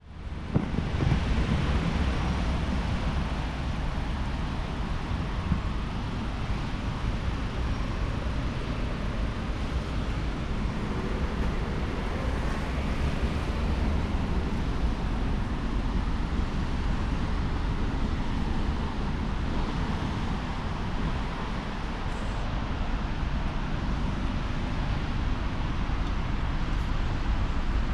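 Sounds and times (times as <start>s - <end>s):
vehicle and road noise: 0.0s - 27.9s.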